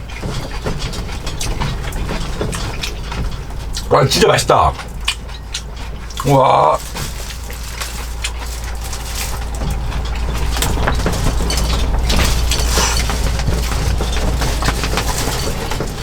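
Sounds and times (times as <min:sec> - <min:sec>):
crackling and crunching: 0:00.0 - 0:16.0
deep wind rumble: 0:00.0 - 0:16.0.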